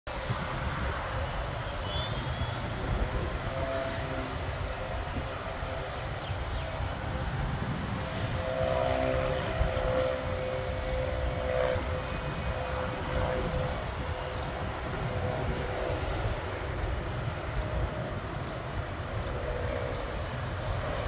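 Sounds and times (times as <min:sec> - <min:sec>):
propeller plane engine running: 0:00.1 - 0:21.0.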